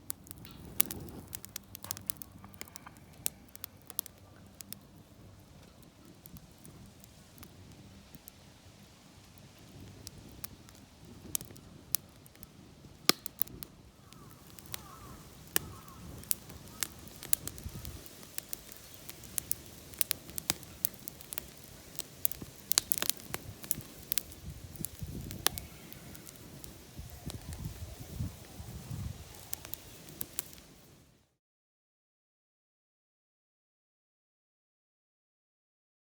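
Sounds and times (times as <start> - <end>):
firewood crackling and popping: 0.0 - 31.2
low fire rumble: 0.0 - 31.2.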